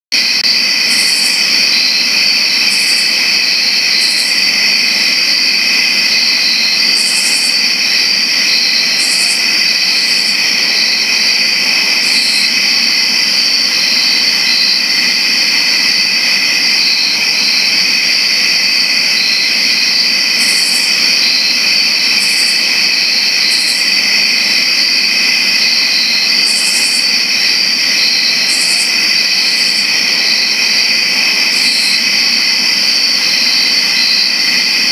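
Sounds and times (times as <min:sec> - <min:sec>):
high-pitched chirping bursts: 0:00.2 - 0:34.4
crickets chirping: 0:00.2 - 0:34.9.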